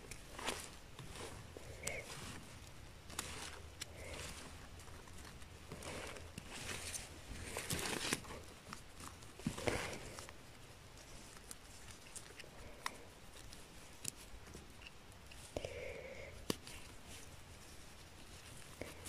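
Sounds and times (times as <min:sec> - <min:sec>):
rustling and crackling of moss: 0:00.0 - 0:19.0.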